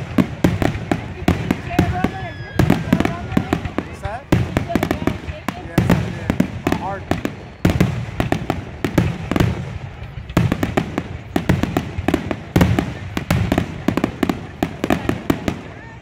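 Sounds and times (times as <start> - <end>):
fireworks crackling pops: 0.0 - 16.0
fireworks heavy bangs: 0.0 - 16.0.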